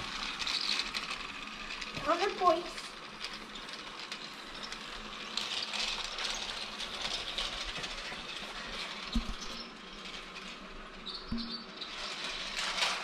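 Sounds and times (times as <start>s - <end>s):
toy train clattering: 0.0s - 13.0s.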